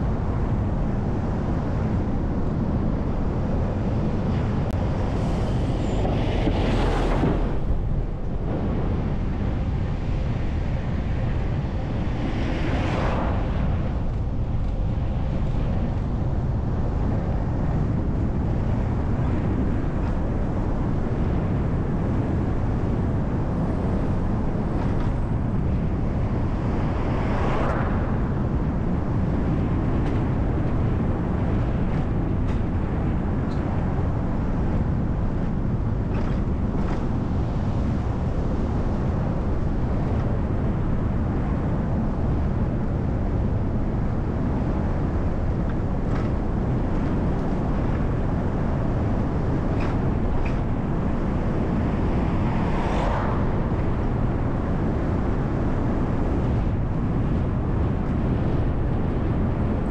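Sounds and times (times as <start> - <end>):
bus engine and tyres rumbling: 0.0 - 59.9.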